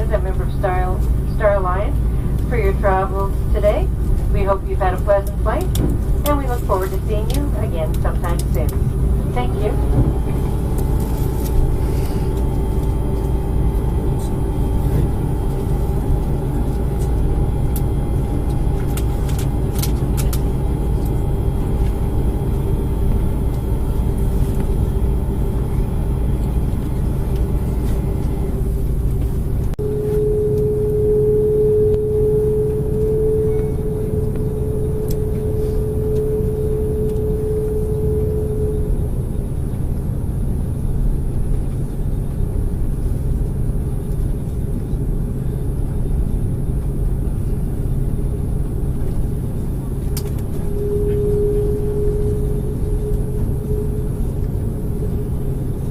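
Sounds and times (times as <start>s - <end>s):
single-pitched hum: 0.0s - 41.7s, 45.9s - 55.9s
airliner engine rumble: 0.0s - 55.9s.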